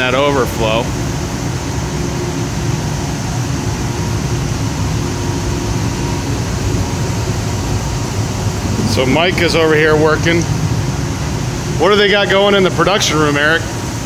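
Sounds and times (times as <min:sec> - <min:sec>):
sap evaporator roaring: 0:00.0 - 0:14.0.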